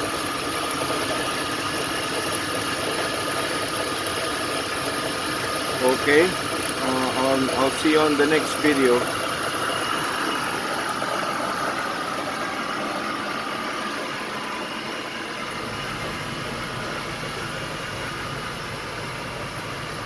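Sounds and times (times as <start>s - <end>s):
truck engine idling: 3.8s - 20.0s.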